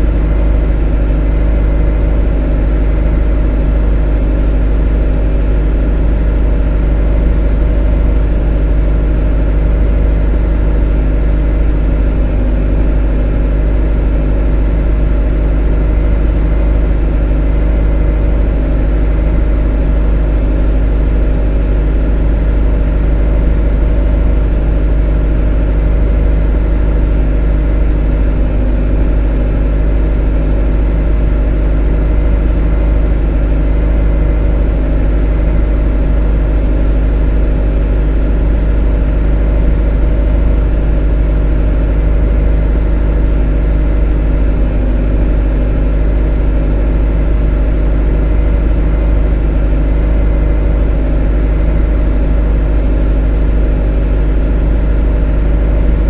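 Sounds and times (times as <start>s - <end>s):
motor humming steadily: 0.0s - 56.0s.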